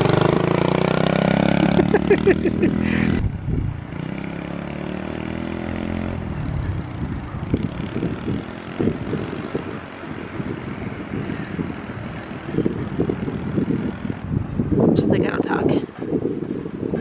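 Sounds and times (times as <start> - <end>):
dirt bike engine running: 0.0 - 14.5.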